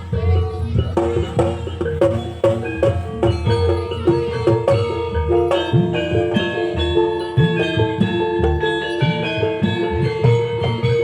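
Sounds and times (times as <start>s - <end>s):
drum strokes bending upward: 0.0s - 11.0s
metallophone notes ringing: 0.0s - 11.0s.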